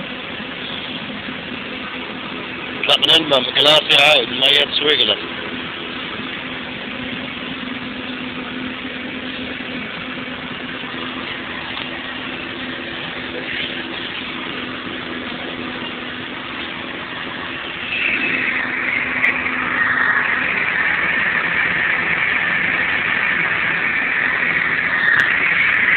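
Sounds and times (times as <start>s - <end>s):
car engine idling: 0.0s - 25.9s
loud hiss with high tone: 0.3s - 25.9s.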